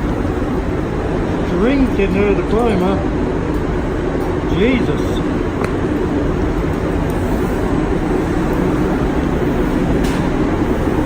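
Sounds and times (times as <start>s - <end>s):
mechanical drone of air equipment: 0.0s - 11.0s.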